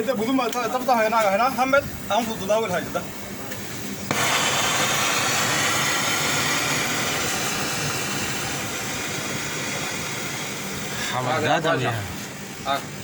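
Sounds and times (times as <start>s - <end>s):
faint steady hum: 0.0s - 13.0s
pressurized gas hissing: 1.6s - 13.0s.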